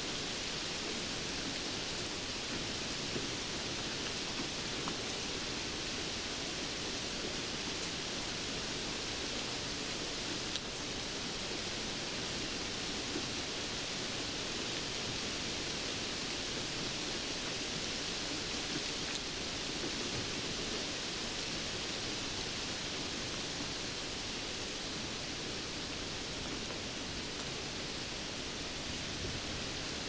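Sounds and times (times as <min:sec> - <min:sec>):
faint raindrop ticks: 0:00.0 - 0:22.0, 0:23.1 - 0:30.0
steady rain hiss: 0:00.0 - 0:30.0.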